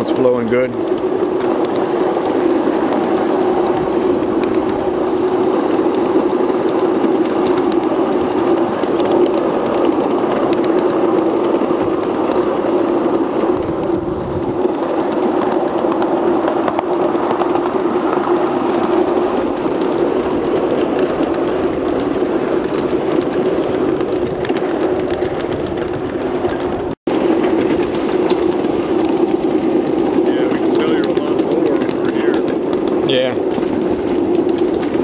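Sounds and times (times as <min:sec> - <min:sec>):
miniature train running on track: 0:00.0 - 0:35.0.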